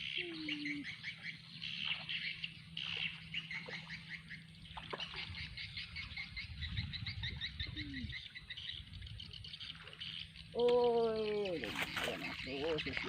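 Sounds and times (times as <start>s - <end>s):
birds chirping: 0.0s - 13.0s
low steady rumble: 0.0s - 13.0s.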